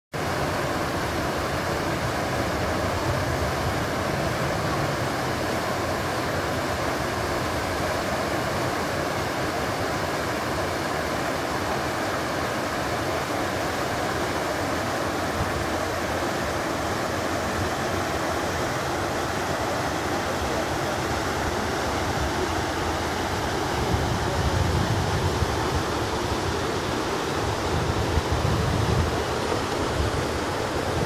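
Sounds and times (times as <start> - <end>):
waterfall rushing: 0.2 - 31.0.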